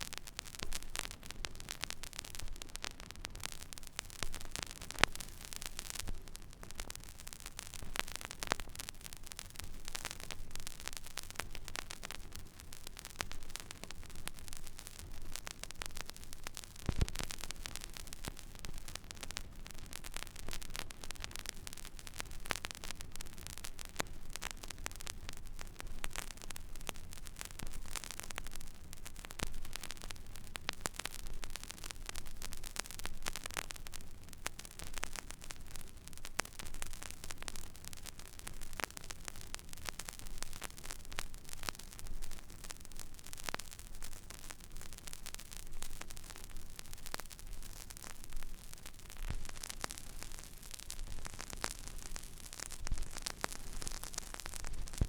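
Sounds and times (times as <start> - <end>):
vinyl crackles and pops: 0.0 - 55.0
vinyl surface hiss: 0.0 - 55.0.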